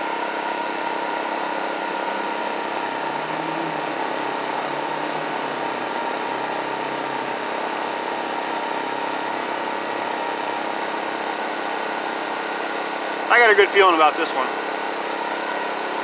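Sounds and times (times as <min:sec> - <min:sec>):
generator engine hum: 0:00.0 - 0:16.0
steady whine: 0:00.0 - 0:16.0.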